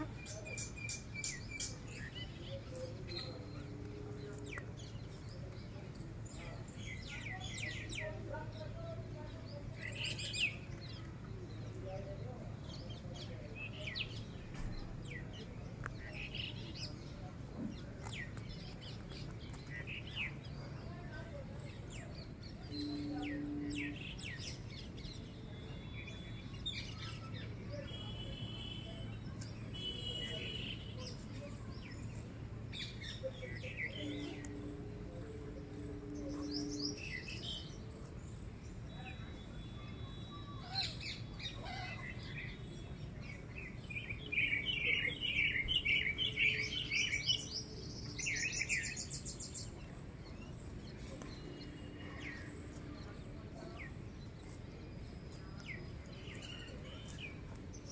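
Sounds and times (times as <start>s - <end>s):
birds chirping and calling: 9.6s - 57.9s.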